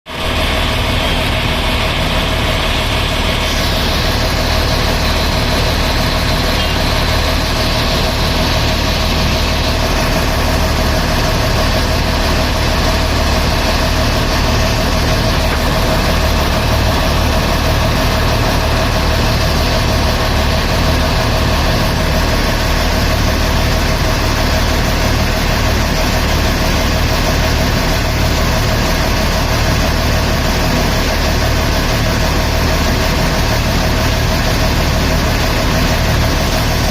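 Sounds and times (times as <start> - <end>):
excavator diesel engine running: 0.1 - 36.9.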